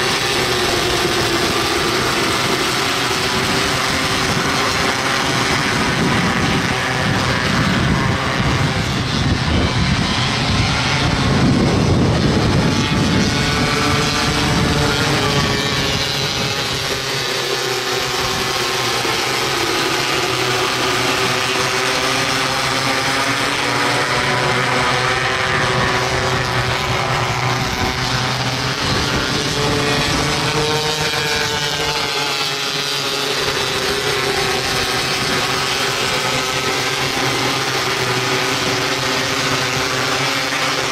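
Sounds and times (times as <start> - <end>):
race car engines at high revs: 0.0 - 40.9.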